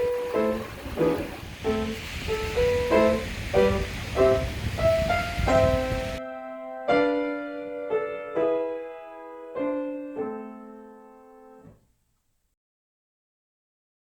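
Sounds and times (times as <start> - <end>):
slow piano chords: 0.0 - 11.8.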